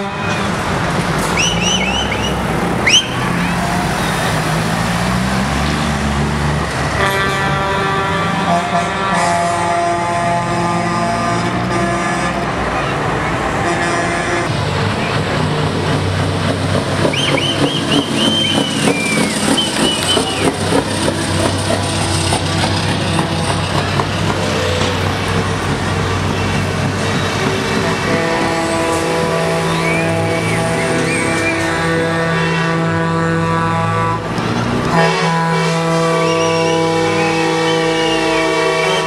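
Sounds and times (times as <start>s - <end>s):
diesel trucks driving past: 0.0s - 39.0s.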